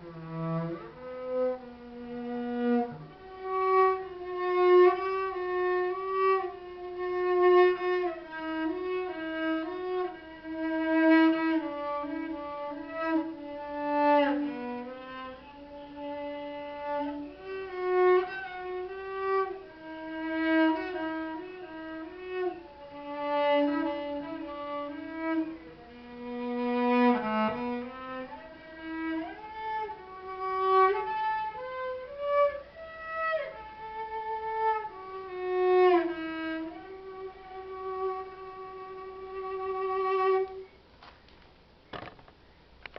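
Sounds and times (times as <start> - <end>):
cello bowed melody: 0.0 - 40.8.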